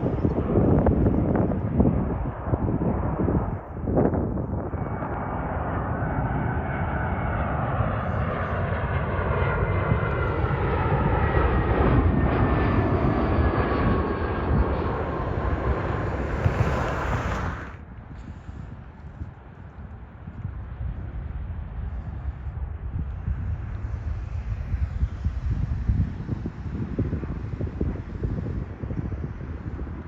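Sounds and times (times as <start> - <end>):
jet airliner flying past: 0.0 - 30.0.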